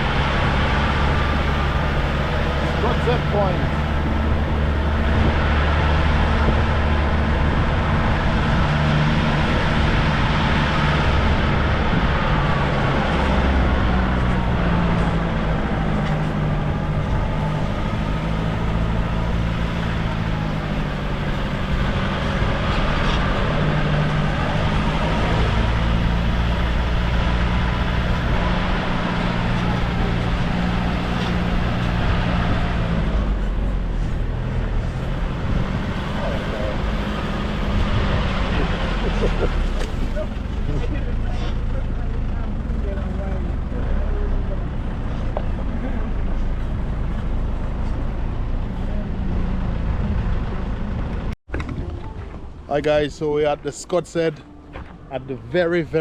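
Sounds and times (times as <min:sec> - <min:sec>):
car engine hum: 0:00.0 - 0:56.0
road noise: 0:00.0 - 0:56.0.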